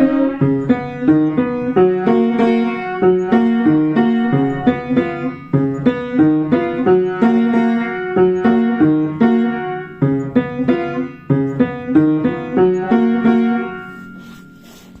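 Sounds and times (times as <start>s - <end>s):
old piano playing a tune: 0.0s - 15.0s.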